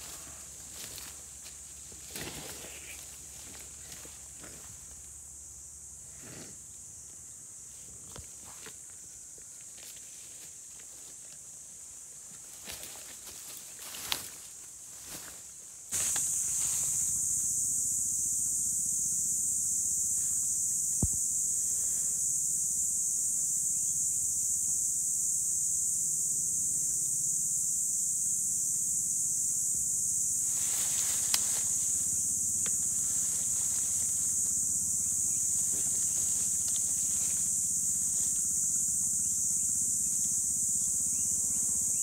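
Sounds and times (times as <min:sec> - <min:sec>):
insect chorus drone: 0:00.0 - 0:42.0.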